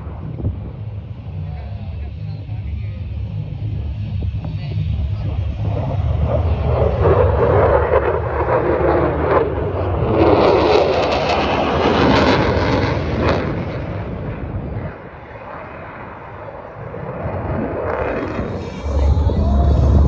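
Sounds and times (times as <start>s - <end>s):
aircraft roaring past: 0.0s - 20.0s.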